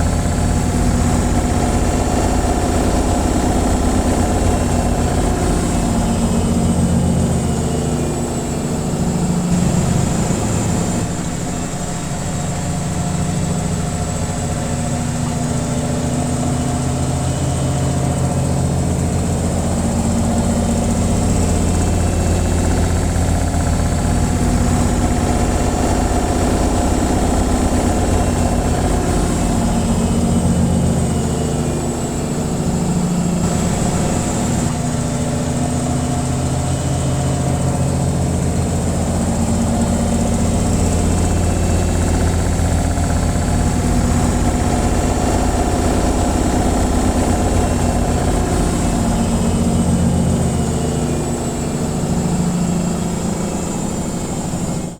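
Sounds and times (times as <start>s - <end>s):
washing machine spinning: 0.0s - 54.9s.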